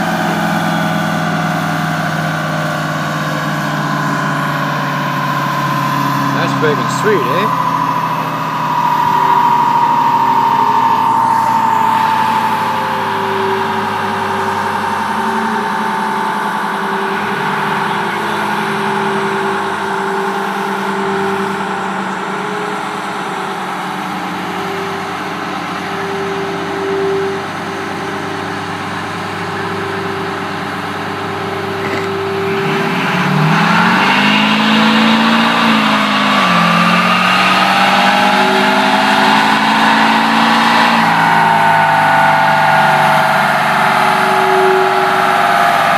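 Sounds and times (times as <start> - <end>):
diesel truck engine revving: 0.0 - 45.9
dynamometer rollers whining: 0.0 - 45.9.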